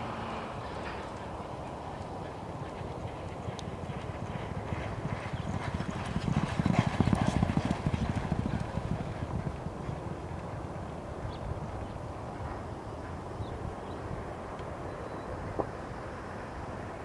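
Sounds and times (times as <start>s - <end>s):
horses galloping hoofbeats: 0.6s - 14.8s.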